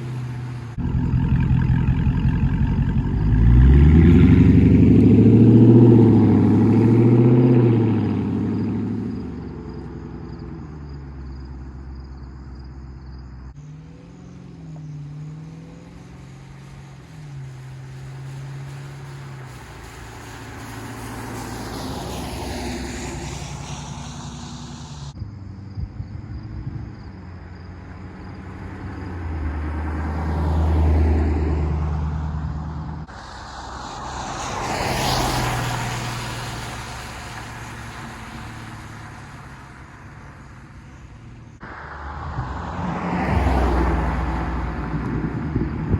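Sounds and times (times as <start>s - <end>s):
car engine and exhaust revving: 0.0s - 45.9s.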